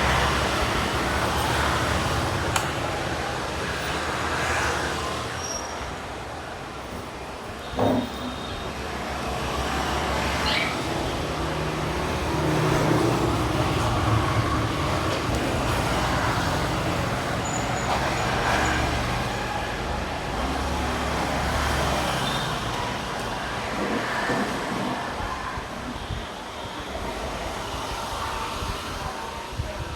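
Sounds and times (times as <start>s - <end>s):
road traffic with engines humming: 0.0s - 29.9s.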